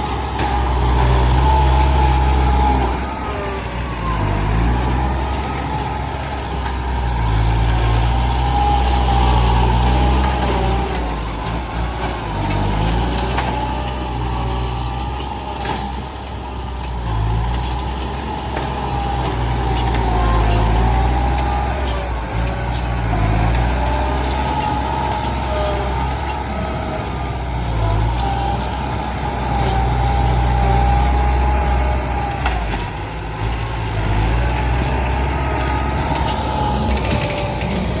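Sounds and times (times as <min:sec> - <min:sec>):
truck diesel engine revving: 0:00.0 - 0:38.0.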